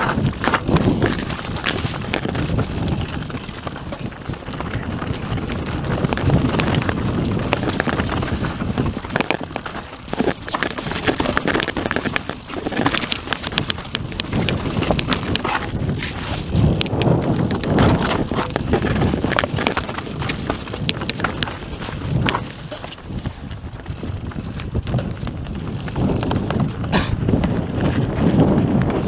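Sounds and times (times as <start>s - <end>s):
bike knocking and rattling: 0.0s - 29.0s
bike tyres rolling over stones: 0.0s - 29.0s
wind rush on microphone: 0.0s - 29.0s.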